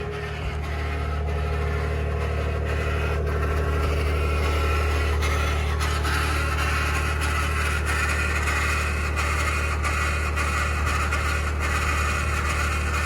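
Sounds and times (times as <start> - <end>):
truck engine droning: 0.0 - 11.0
rough grinding noise: 0.0 - 13.0.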